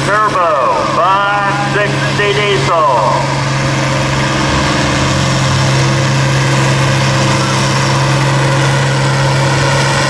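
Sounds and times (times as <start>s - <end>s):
tractor engine under heavy load: 0.0s - 10.0s.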